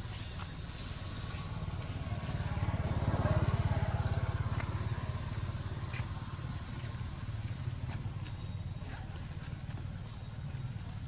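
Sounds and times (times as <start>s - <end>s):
small birds chirping: 0.0s - 11.0s
small engine pulsing: 0.2s - 11.0s.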